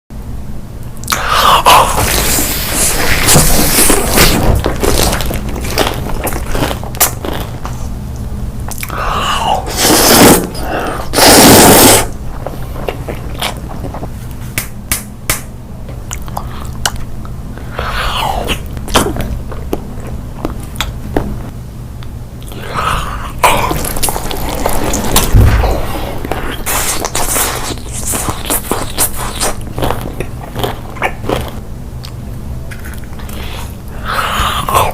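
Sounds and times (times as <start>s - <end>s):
person chewing food: 1.0s - 7.9s, 8.7s - 14.5s, 15.9s - 21.5s, 22.4s - 34.9s.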